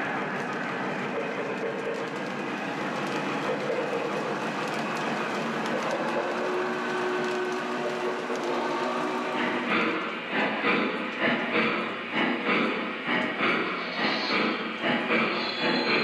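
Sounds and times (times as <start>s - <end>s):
model train wheels rumbling: 0.0s - 16.0s.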